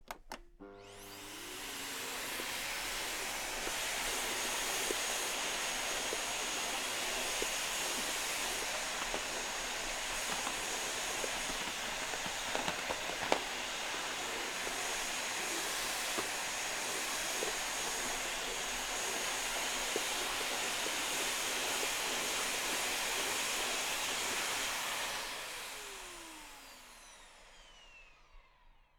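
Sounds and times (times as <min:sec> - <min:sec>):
vacuum cleaner motor whining: 0:00.1 - 0:28.9.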